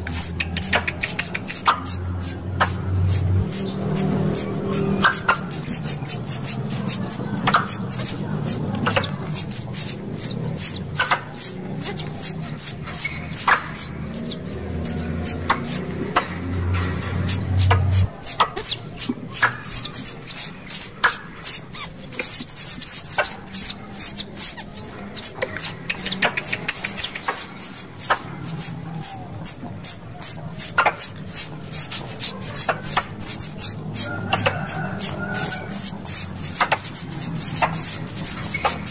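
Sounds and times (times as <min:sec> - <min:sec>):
squirrel chattering chirps: 0:00.0 - 0:16.3, 0:17.2 - 0:38.9.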